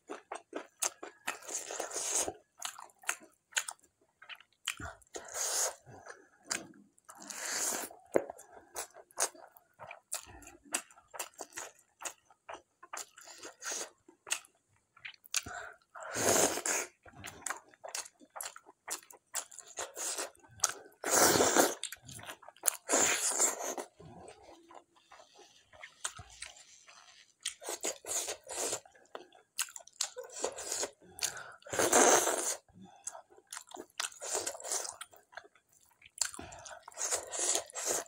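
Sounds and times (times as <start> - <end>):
chewing and mouth sounds: 0.1 - 16.0, 16.6 - 38.0.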